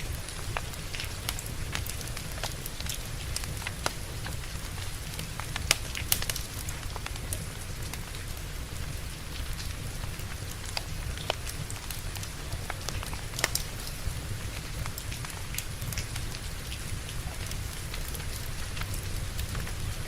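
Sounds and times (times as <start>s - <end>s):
burning logs popping: 0.0s - 20.0s
steady rain: 0.0s - 20.0s
wood fire crackling: 0.0s - 20.0s.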